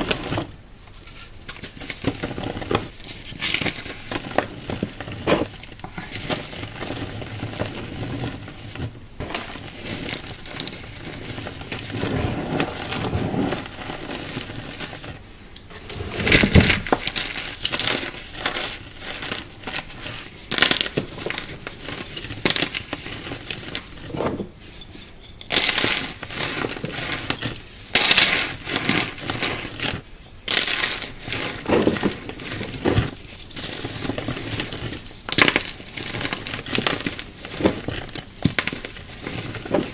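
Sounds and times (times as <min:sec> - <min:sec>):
hand crushing chalk: 0:00.0 - 0:15.2, 0:16.2 - 0:24.4, 0:25.5 - 0:39.9.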